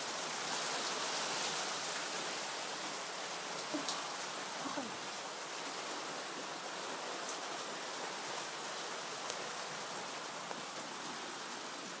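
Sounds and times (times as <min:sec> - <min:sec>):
hail and rain falling: 0:00.0 - 0:12.0.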